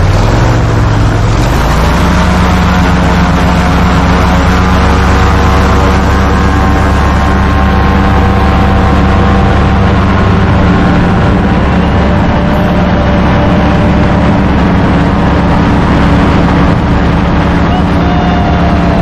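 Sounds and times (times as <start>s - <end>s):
engine and propeller drone: 0.0s - 19.0s.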